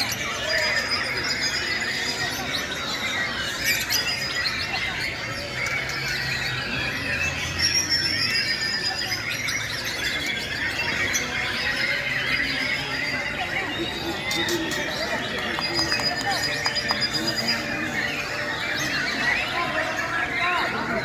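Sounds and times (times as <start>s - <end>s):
chorus of birds singing: 0.0s - 21.0s.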